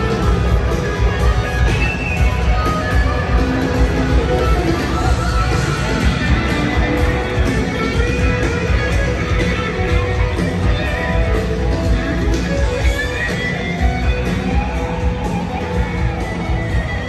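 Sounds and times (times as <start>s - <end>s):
country rock band over loudspeakers: 0.0s - 17.0s.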